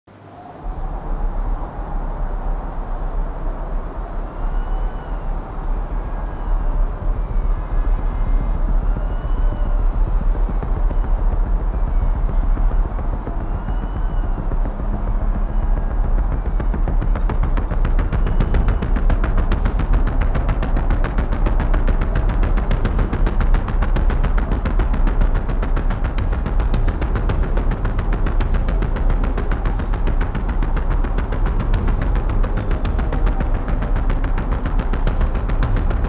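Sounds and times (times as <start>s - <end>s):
faint high rising and falling tones: 0.1s - 36.0s
distant traffic rumble: 0.4s - 36.0s.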